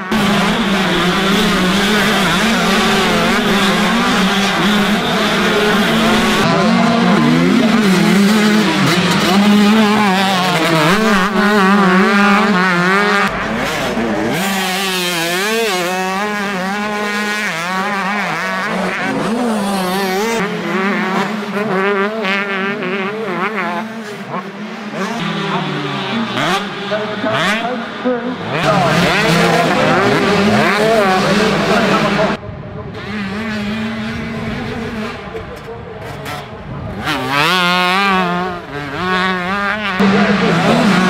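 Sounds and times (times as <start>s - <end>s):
motocross bike engines revving: 0.0s - 41.0s.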